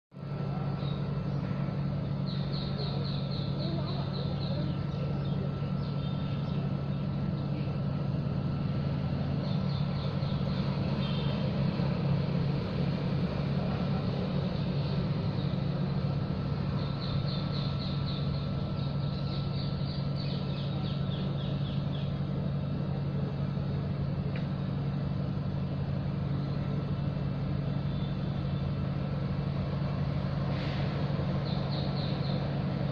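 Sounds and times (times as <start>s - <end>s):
low mechanical hum: 0.1s - 32.9s.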